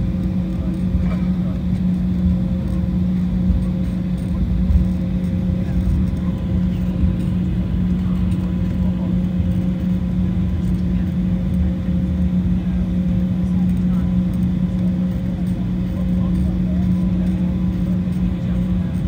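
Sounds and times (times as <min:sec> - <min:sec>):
jet engines humming at low power: 0:00.0 - 0:19.0
low cabin rumble: 0:00.0 - 0:19.0.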